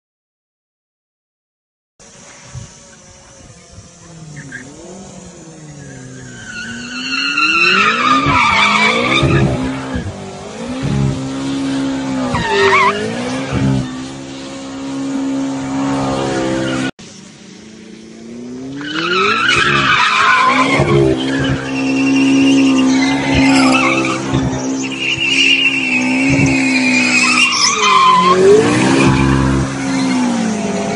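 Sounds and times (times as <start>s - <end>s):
tyres squealing and skidding: 3.0s - 16.9s, 18.6s - 30.9s
sports car engine revving: 4.0s - 16.9s, 17.5s - 30.9s.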